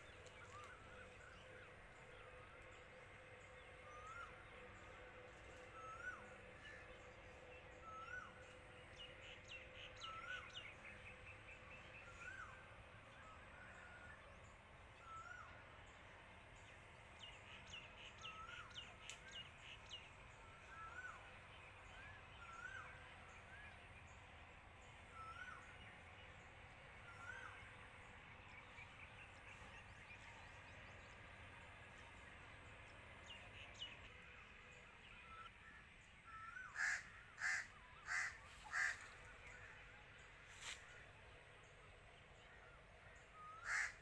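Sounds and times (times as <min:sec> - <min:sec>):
steady hum and hiss: 0:00.0 - 0:44.0.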